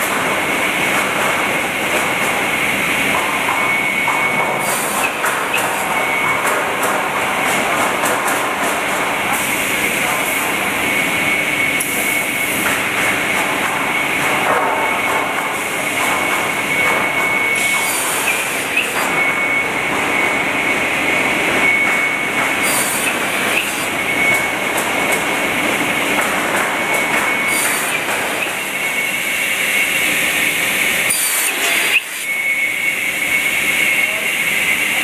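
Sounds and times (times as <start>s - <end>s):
machine noise with high whine: 0.0s - 35.0s.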